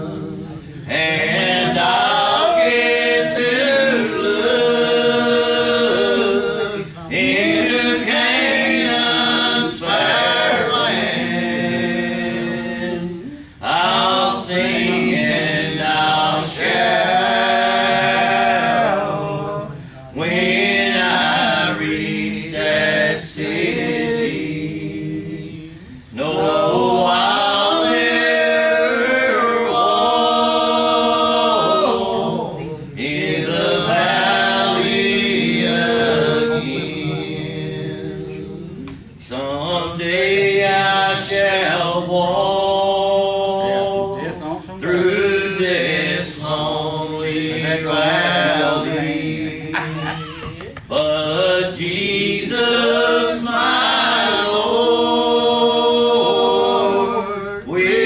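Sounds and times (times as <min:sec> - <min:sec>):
person singing gospel song: 0:00.0 - 0:58.0.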